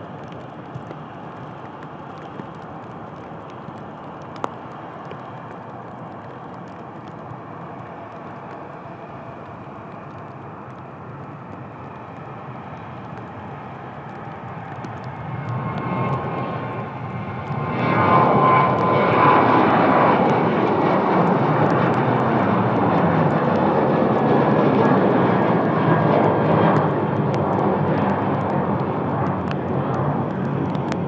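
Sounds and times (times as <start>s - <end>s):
distant jet airliner noise: 0.0s - 31.0s
raindrops ticking on rain cover: 0.0s - 31.0s.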